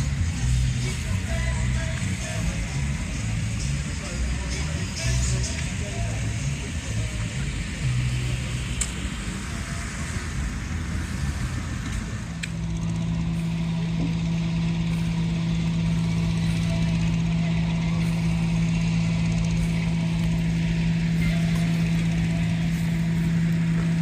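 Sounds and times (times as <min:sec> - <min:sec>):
engine running: 0:00.0 - 0:24.0
low even hum: 0:00.0 - 0:24.0.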